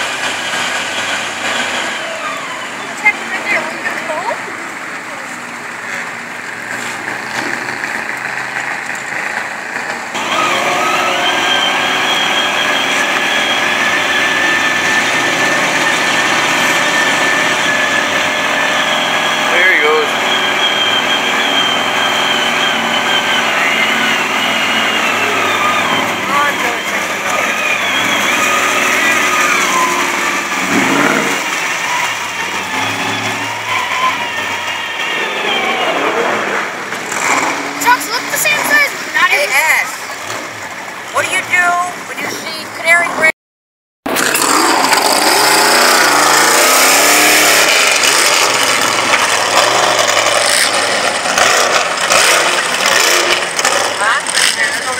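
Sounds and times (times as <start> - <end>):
truck engine revving hard: 0.0 - 43.3, 44.0 - 54.9.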